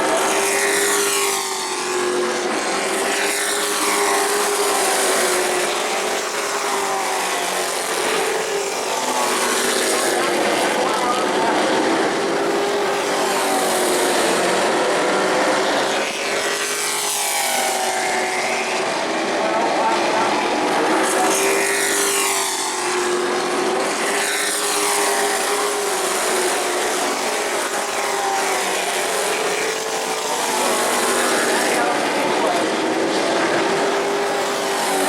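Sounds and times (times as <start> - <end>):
race truck engines passing: 0.0 - 35.0.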